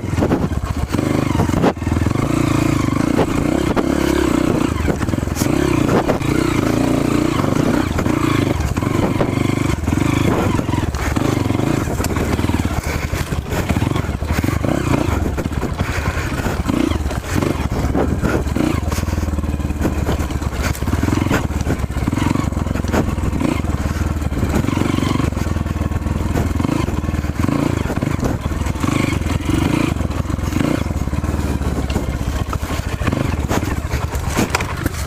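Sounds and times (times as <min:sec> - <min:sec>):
dirt bike engine revving: 0:00.0 - 0:35.0
knocks and clatter: 0:03.0 - 0:35.0.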